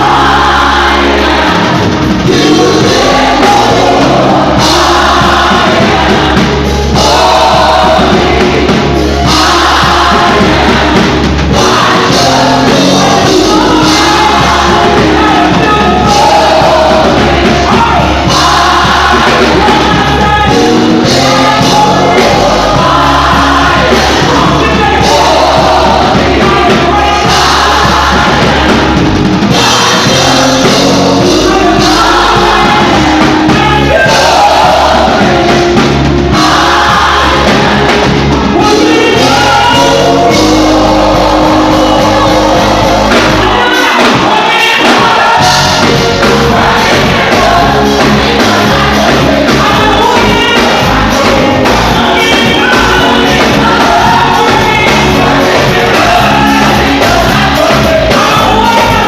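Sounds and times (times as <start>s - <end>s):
bass line: 0.0s - 59.0s
gospel music: 0.0s - 59.0s
voices singing: 0.0s - 59.0s.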